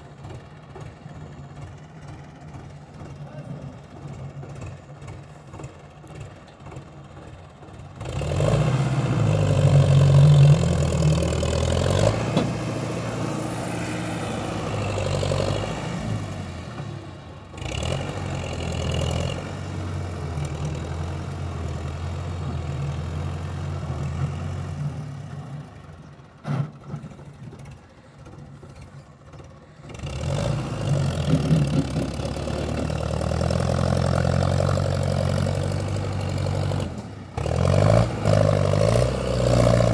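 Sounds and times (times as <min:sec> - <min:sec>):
tractor diesel engine labouring: 0:00.0 - 0:39.9.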